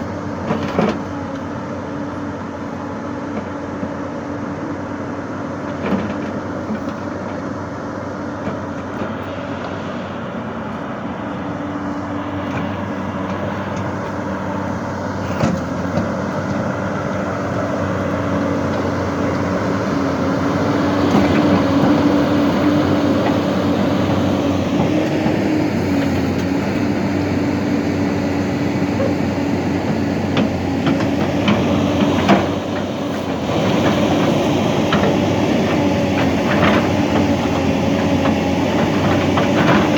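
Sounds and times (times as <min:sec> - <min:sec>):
excavator engine whining: 0:00.0 - 0:39.9.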